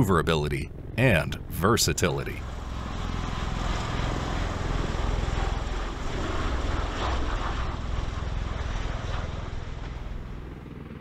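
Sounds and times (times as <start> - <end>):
aircraft rotors and engines rushing: 0.0 - 11.0
fast low rotor throb: 0.0 - 11.0.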